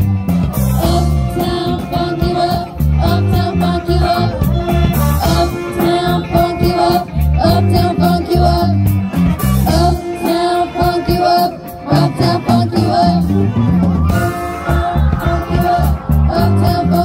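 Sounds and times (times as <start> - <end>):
low bass notes: 0.0 - 17.0
people singing into microphones: 0.0 - 17.0
steady drum beat: 0.0 - 17.0
trumpets and saxophones: 0.0 - 17.0.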